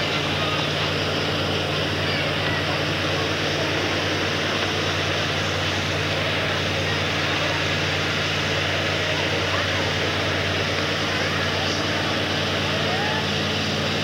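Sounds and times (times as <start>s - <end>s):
faint crowd voices: 0.0s - 14.0s
steady rushing noise: 0.0s - 14.0s.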